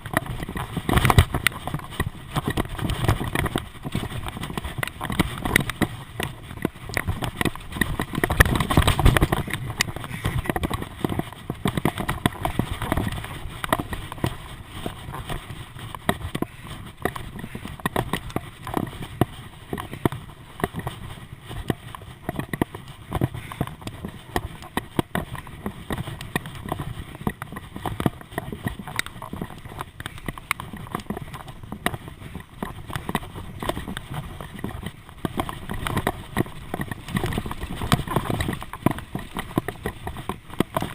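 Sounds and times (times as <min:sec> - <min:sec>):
bicycle rattling: 0:00.0 - 0:40.9.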